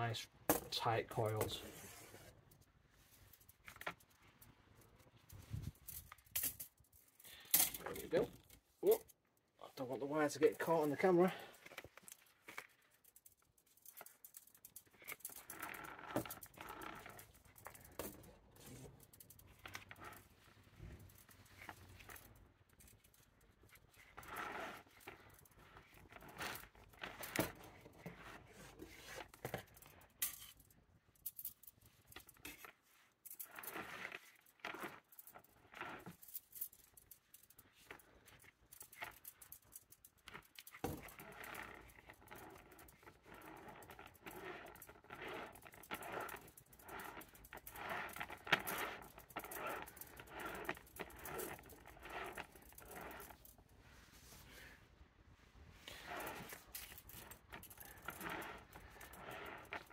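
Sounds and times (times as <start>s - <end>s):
wire scraping and rattling: 0.0s - 53.7s, 55.8s - 59.9s.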